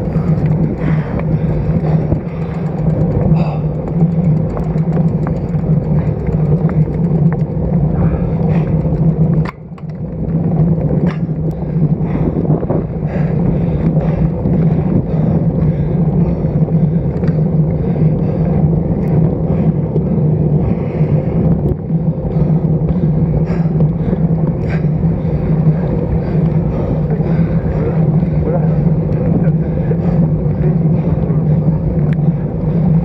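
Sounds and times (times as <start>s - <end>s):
wind and road noise rushing: 0.0s - 33.0s.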